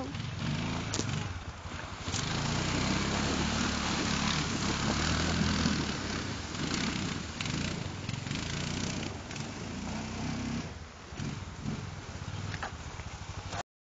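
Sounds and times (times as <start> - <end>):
quad bike engine running: 0.0 - 13.6
tyres splashing water: 0.0 - 13.6.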